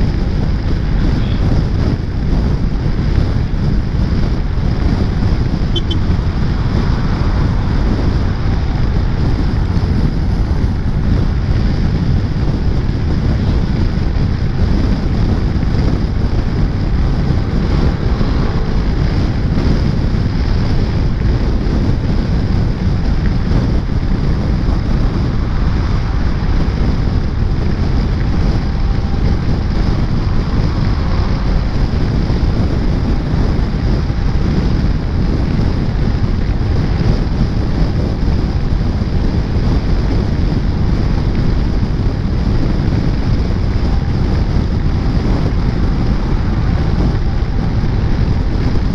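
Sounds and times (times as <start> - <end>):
wind rumble on microphone: 0.0 - 48.9.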